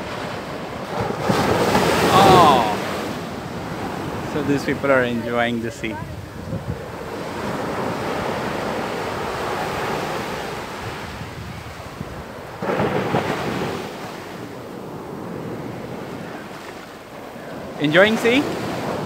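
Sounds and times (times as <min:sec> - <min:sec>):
surf washing up beach: 0:00.0 - 0:19.0.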